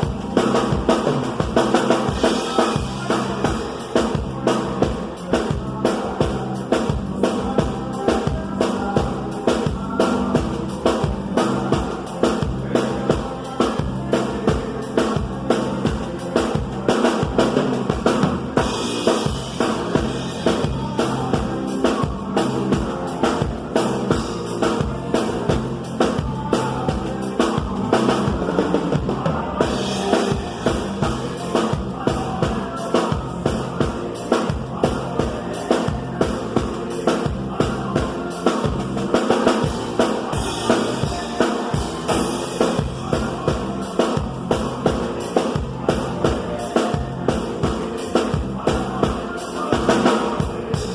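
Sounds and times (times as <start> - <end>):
drum kit beat: 0.0 - 50.9
live band music: 0.0 - 50.9.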